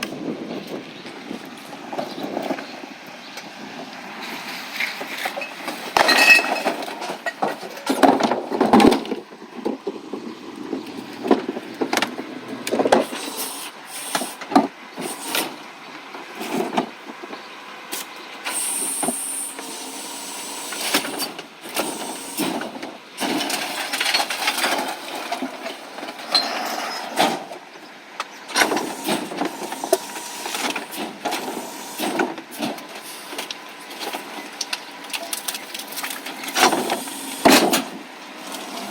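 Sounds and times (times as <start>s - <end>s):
recycling truck running: 0.0s - 38.9s.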